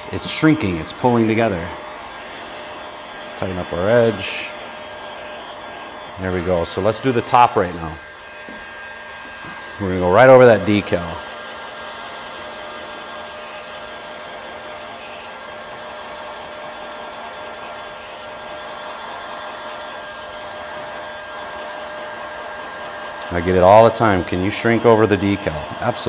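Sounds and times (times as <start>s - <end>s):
heat gun blowing hiss: 0.0s - 26.0s.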